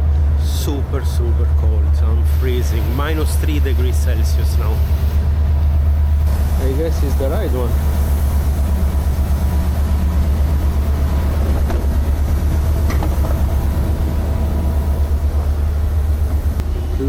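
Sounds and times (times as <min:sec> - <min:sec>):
train engine idling: 0:00.0 - 0:17.0.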